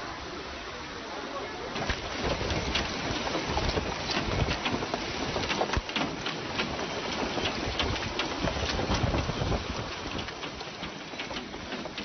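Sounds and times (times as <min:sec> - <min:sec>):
heavy rain falling: 0:00.0 - 0:12.0
raindrops ticking on surfaces: 0:01.4 - 0:12.0.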